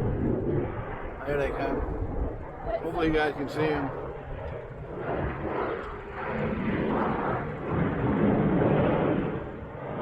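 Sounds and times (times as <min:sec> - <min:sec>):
jet flyby roar: 0:00.0 - 0:10.0.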